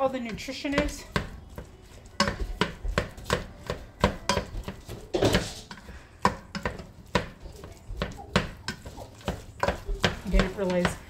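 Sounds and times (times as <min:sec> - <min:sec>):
knife chopping on cutting board: 0:00.7 - 0:11.0.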